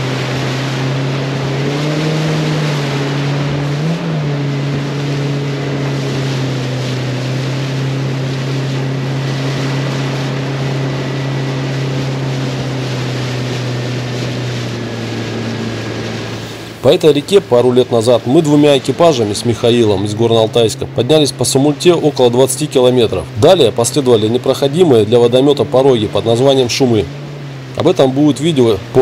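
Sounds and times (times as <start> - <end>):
outboard motor running: 0.0 - 29.0
rushing water: 0.0 - 29.0
wind: 0.0 - 29.0.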